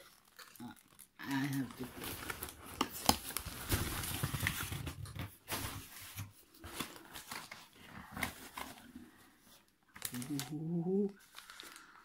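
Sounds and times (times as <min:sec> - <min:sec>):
paper and plastic bag rustling: 0:00.0 - 0:12.0.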